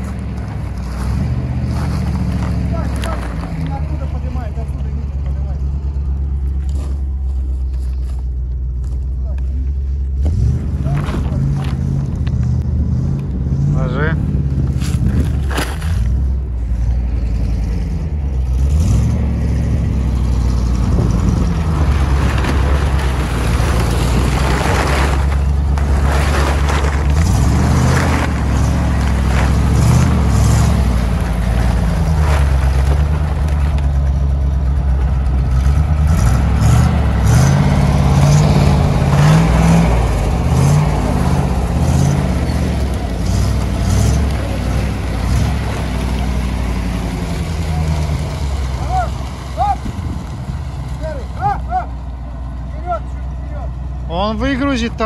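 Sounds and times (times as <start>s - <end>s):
truck engine revving: 0.0s - 7.7s, 9.4s - 55.0s.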